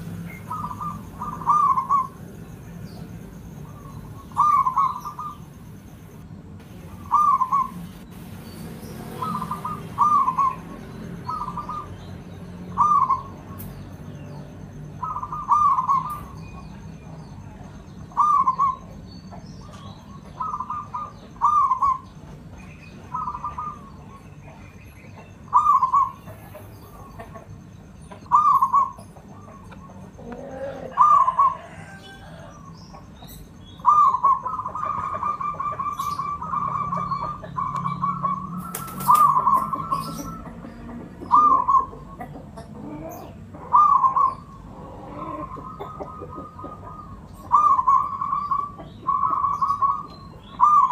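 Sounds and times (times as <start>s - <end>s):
dove cooing: 0.0s - 13.7s, 15.0s - 16.7s, 18.1s - 22.2s, 23.1s - 24.2s, 25.2s - 27.5s, 28.1s - 32.7s, 33.3s - 50.9s.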